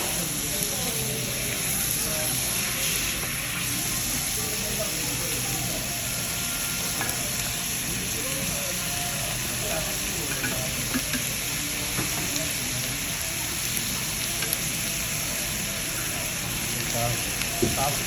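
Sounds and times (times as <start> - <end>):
chicken sizzling in a hotpot: 0.0 - 18.0
faint voices: 0.0 - 18.0.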